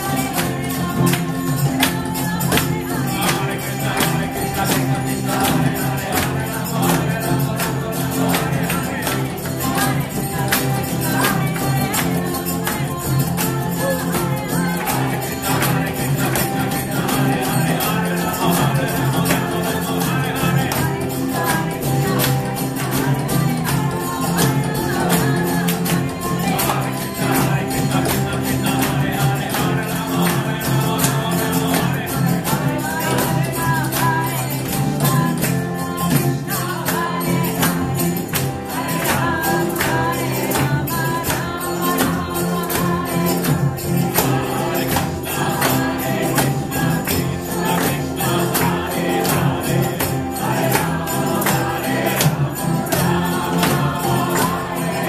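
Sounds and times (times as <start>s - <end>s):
fast percussion beat: 0.0s - 55.0s
group chanting melody: 0.0s - 55.0s.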